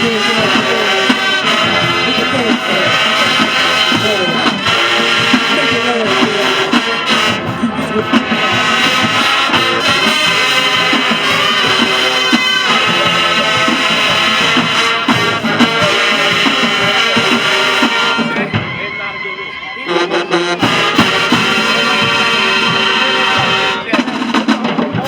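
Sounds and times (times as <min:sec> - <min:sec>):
loud music: 0:00.0 - 0:25.0.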